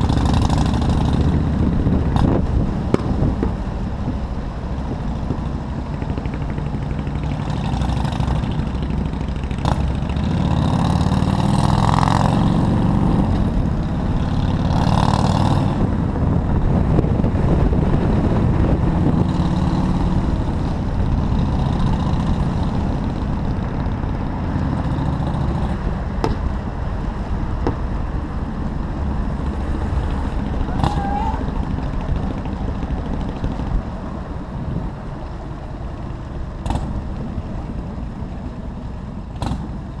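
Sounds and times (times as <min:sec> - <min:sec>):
low wind rumble: 0:00.0 - 0:40.0
motorcycle engine running: 0:00.0 - 0:40.0
road rumble: 0:00.0 - 0:40.0.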